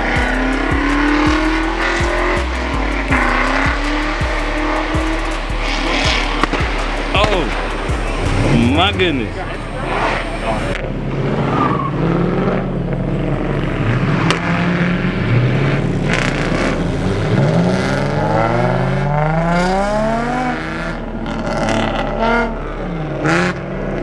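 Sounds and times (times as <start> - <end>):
car engine revving up: 0.0 - 24.0.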